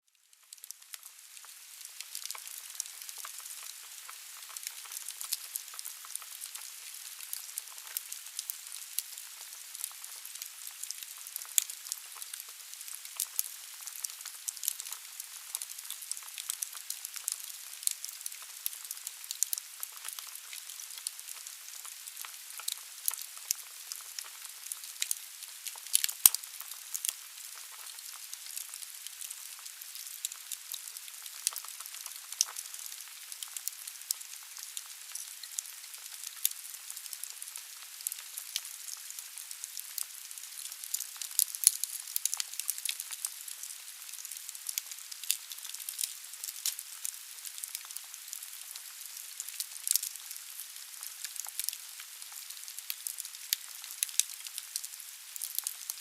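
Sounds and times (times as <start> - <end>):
logs crackling and popping: 0.3 - 56.0.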